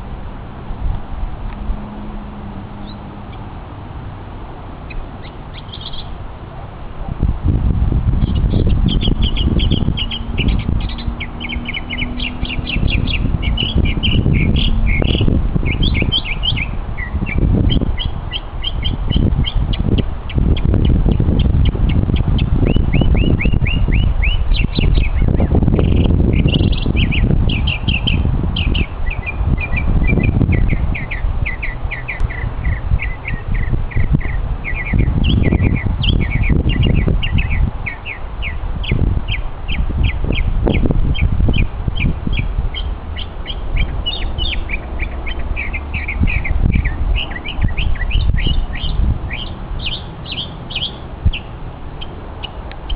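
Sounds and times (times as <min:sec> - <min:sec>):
mockingbird singing: 0:04.9 - 0:06.2, 0:08.2 - 0:52.9.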